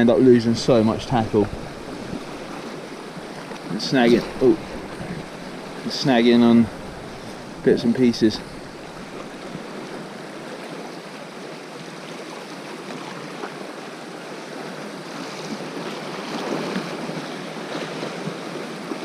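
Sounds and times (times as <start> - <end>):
sea waves on rocky shore: 0.0 - 19.0.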